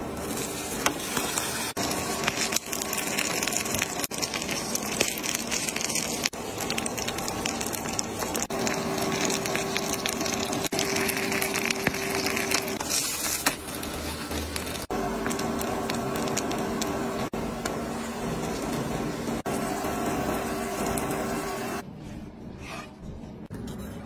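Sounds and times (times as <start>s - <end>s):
batter sizzling in hot oil: 0.0s - 21.8s.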